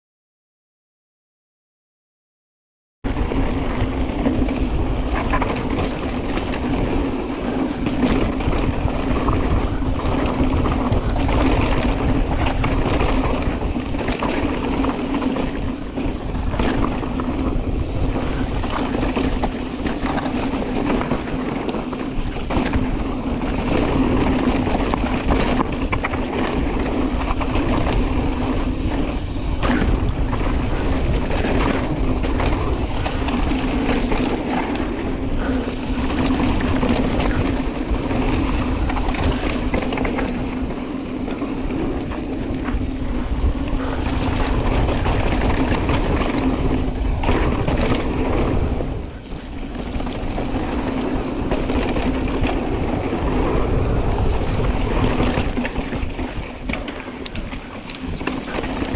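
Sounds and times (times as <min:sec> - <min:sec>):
wind rushing over microphone: 0:03.0 - 0:58.9
bike rattling and knocking: 0:03.1 - 0:58.9
tyres rolling on dirt: 0:03.1 - 0:58.9.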